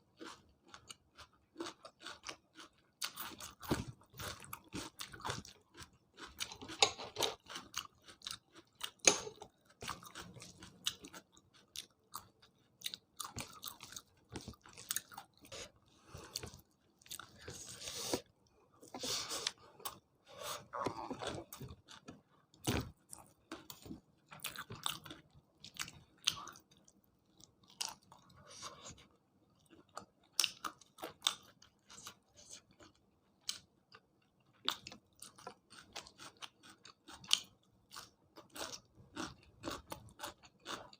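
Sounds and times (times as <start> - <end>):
chewing and crunching food: 0.0 - 40.9.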